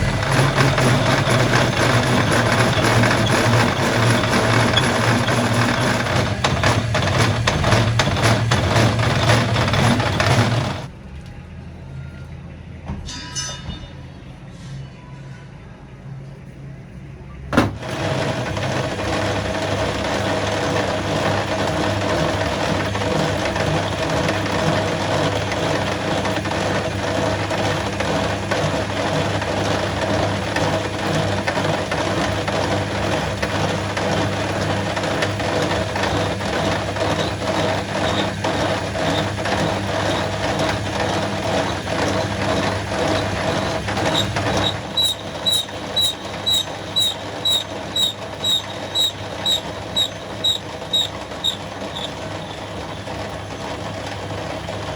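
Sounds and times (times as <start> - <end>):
heavy machine running: 0.0 - 12.8, 15.6 - 54.9.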